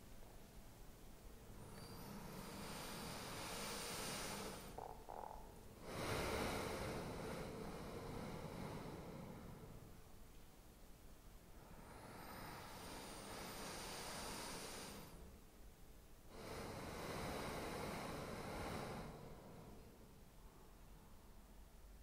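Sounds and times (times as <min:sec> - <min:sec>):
breathy hissing air noise: 0:00.0 - 0:22.0.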